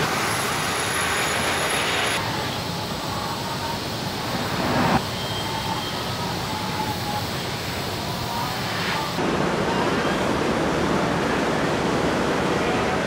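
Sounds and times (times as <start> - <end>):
factory machinery hiss: 0.0 - 11.2.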